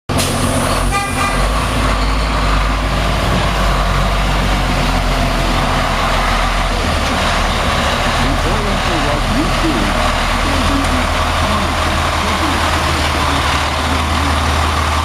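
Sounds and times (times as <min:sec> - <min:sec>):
truck engine idling: 0:00.1 - 0:15.0.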